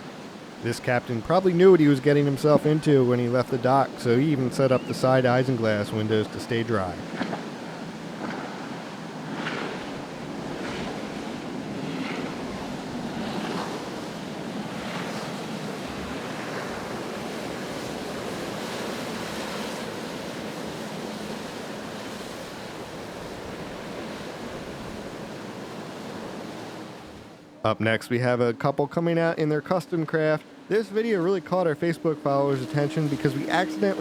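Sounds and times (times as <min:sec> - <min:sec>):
wind gusting across microphone: 0:00.0 - 0:27.6, 0:30.2 - 0:34.0
surf and rough water washing: 0:00.0 - 0:34.0.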